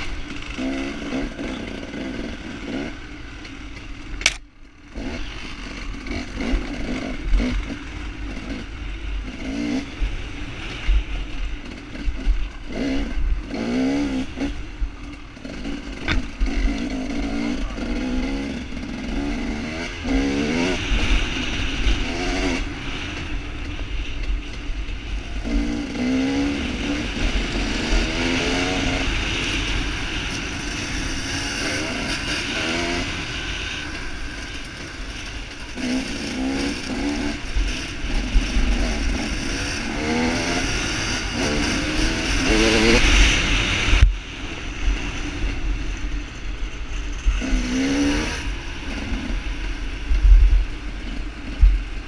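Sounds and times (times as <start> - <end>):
dirt bike engine revving: 0.0 - 52.0
wind rushing over microphone: 0.0 - 52.0.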